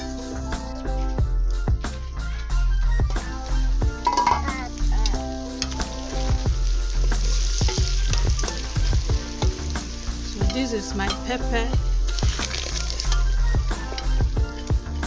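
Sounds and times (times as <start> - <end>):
background music with bass beat: 0.0 - 15.0
food sizzling in oil: 0.0 - 15.0.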